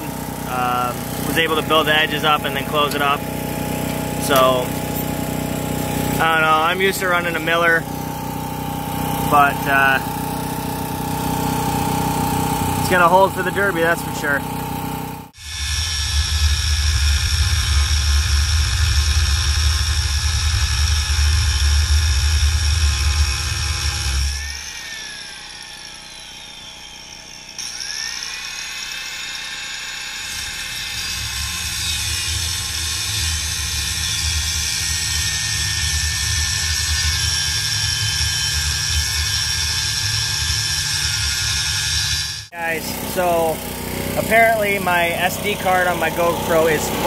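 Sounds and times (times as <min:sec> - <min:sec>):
angle grinder cutting steel: 0:00.0 - 0:47.0.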